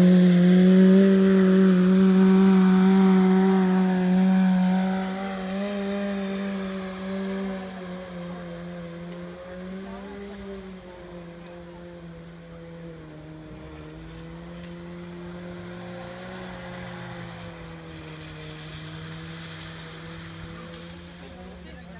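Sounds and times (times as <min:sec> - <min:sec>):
rally car engine at high revs: 0:00.0 - 0:21.9.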